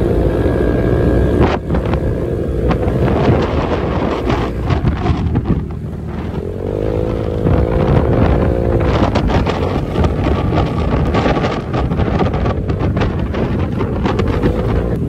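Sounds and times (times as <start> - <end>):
scooter engine drone: 0.0 - 15.0
wind buffeting microphone: 0.0 - 15.0.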